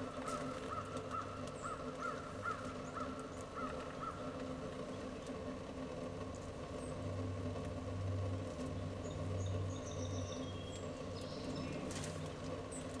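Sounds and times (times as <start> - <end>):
low hum like distant engine: 0.0 - 13.0.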